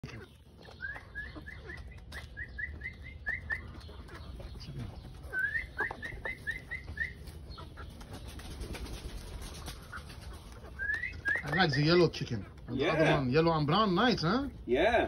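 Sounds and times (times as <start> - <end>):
chickens pecking grain from plastic bowl: 0.0 - 14.7
bird chirping: 0.0 - 15.0.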